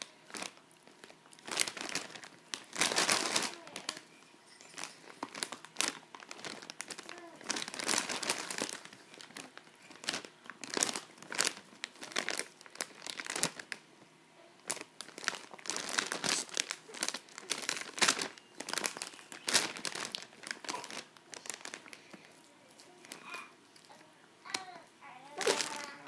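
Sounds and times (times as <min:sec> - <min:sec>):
foil chip bag crinkling: 0:00.0 - 0:13.8, 0:14.6 - 0:24.7, 0:25.3 - 0:26.0.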